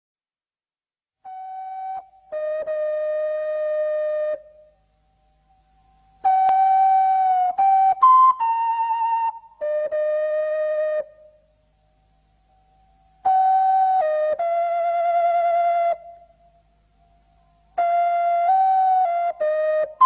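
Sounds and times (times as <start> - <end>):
long held single tones: 1.2 - 20.0.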